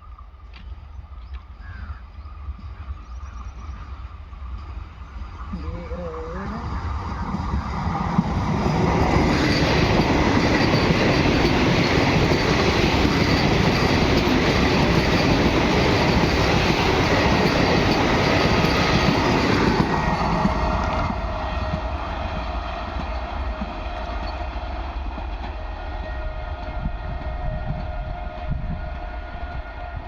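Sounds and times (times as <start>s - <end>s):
train passing at high speed: 0.0s - 30.0s.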